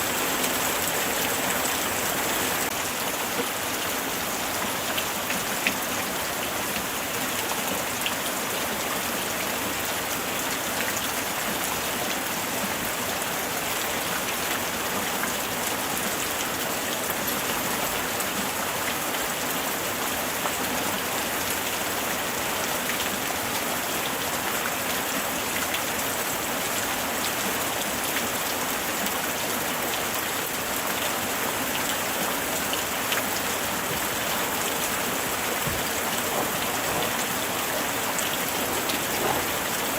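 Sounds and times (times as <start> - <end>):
raindrops pattering on a surface: 0.0 - 39.9
steady rain falling: 0.0 - 39.9.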